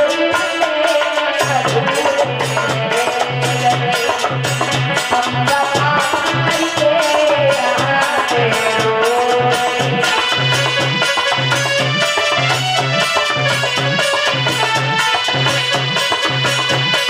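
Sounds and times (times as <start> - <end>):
hand drum beat: 0.0 - 17.0
shaken percussion: 0.0 - 17.0
wavering melody line: 1.0 - 17.0.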